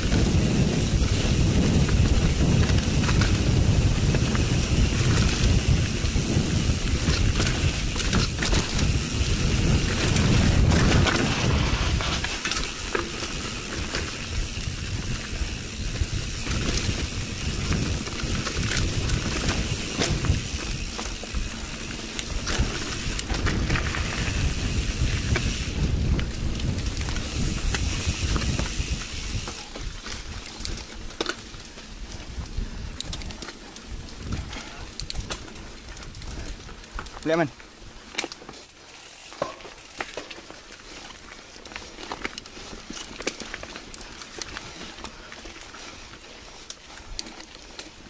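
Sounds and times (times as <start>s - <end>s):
bike rattling over bumps: 0.0s - 48.0s
bike tyres rolling on dirt: 0.0s - 48.0s.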